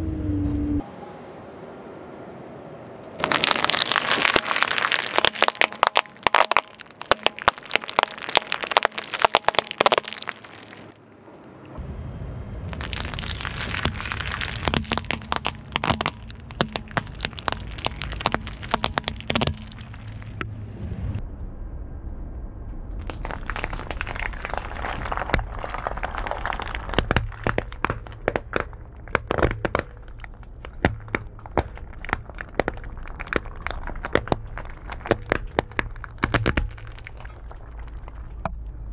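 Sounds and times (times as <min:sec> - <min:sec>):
low tyre rumble: 0:00.0 - 0:38.9
paintballs cracking under tyre: 0:03.1 - 0:11.8, 0:12.7 - 0:20.5, 0:23.0 - 0:38.8.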